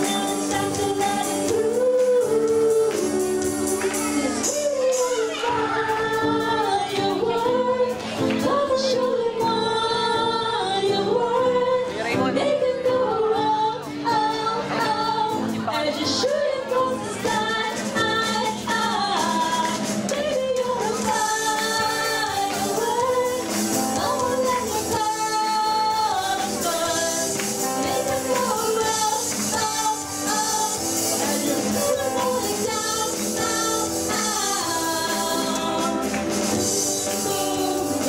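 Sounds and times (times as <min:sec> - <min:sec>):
acoustic guitar: 0:00.0 - 0:38.0
electric guitar: 0:00.0 - 0:38.0
keyboard: 0:00.0 - 0:38.0
women singing pop song: 0:00.0 - 0:38.0.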